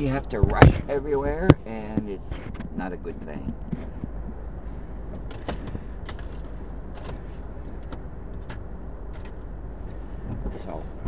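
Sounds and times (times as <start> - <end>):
steady low rumble: 0.0 - 11.0
handling clicks and knocks: 0.2 - 4.4, 5.1 - 10.5.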